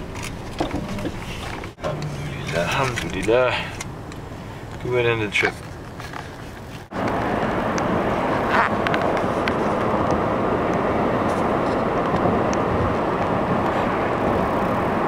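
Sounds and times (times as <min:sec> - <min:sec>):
vehicle cabin road rumble: 0:00.0 - 0:15.0.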